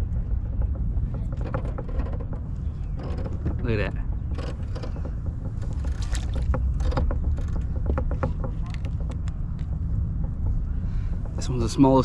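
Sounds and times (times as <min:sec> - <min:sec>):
sharp clicks and knocks: 0:00.0 - 0:12.0
steady low rumble: 0:00.0 - 0:12.0.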